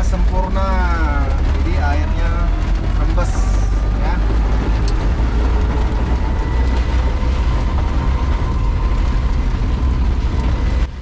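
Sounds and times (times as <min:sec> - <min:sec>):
car cabin low rumble: 0:00.0 - 0:11.0
heavy rain and wet tyres hiss: 0:00.0 - 0:11.0.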